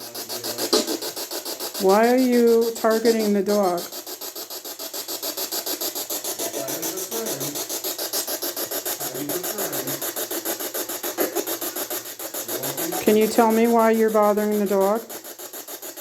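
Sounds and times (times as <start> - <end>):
pulsing electronic static: 0.0 - 16.0.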